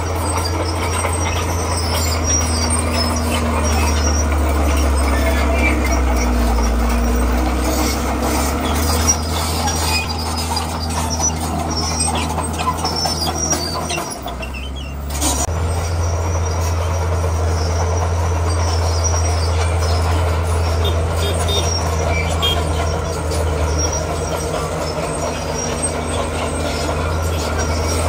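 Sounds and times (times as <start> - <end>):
bulldozer diesel engine under load: 0.0 - 28.0
metallic squeaks and clanks of tracks: 0.0 - 28.0.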